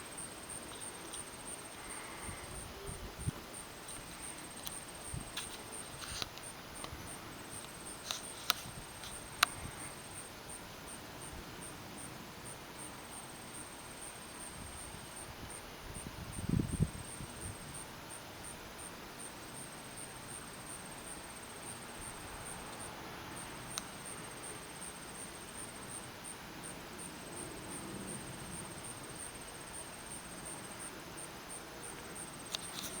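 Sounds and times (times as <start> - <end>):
outdoor hiss: 0.0 - 33.0
pulsing insect trill: 0.0 - 33.0.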